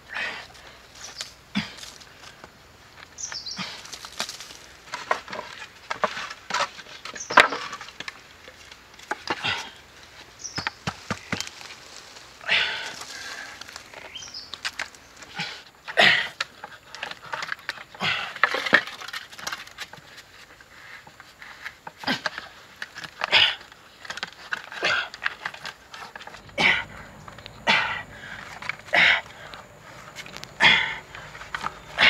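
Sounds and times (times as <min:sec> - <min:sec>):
bamboo poles knocking and scraping: 0:00.2 - 0:32.0.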